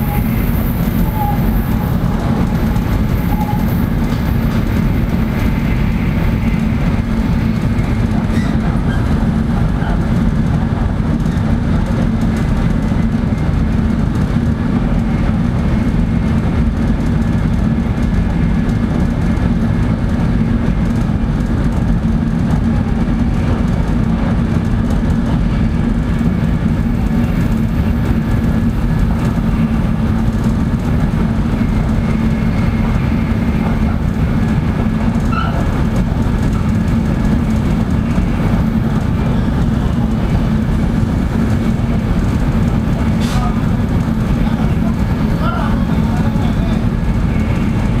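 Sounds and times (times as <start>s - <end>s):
constant low hum: 0.0s - 48.0s
train rumble inside passenger car: 0.0s - 48.0s.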